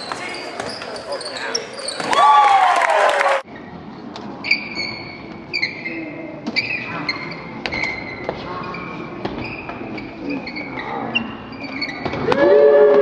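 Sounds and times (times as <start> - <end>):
sneaker squeaks: 0.0 - 2.3, 3.6 - 12.3.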